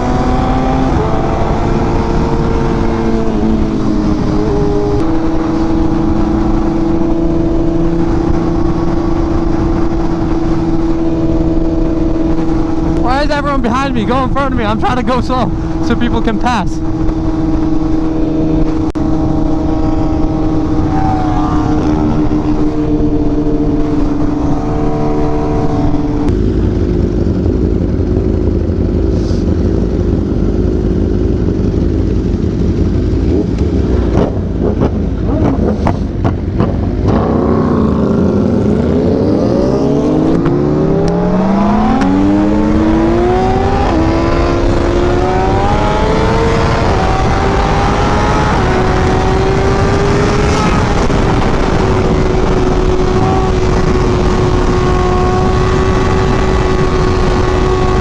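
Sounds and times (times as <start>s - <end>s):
wind rush: 0.0s - 30.2s, 33.3s - 58.0s
motorcycle engine revving: 0.0s - 58.0s.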